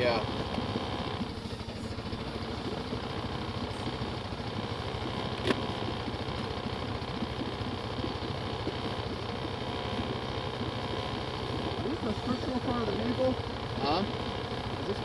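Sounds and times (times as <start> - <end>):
off-road vehicle engine idling: 0.0 - 15.0.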